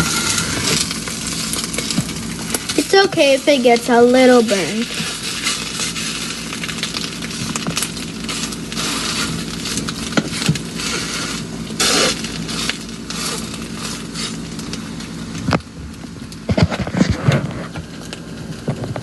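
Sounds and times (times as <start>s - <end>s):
omelet sizzling in a frying pan: 0.0s - 19.0s.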